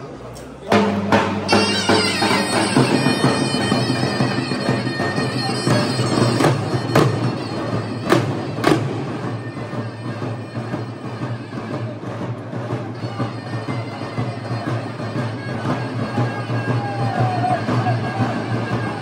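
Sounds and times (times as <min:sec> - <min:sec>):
shrill reed wind instrument: 0:00.7 - 0:19.0.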